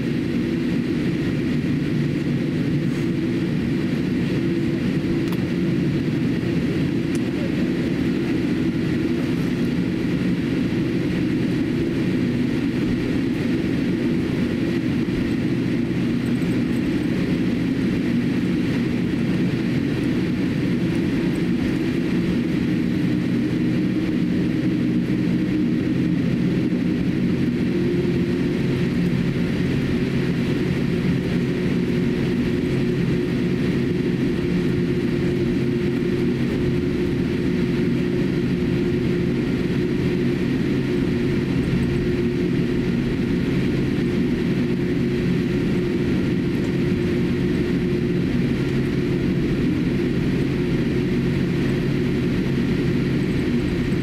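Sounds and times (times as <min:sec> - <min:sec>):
airliner engine hum: 0:00.0 - 0:54.0.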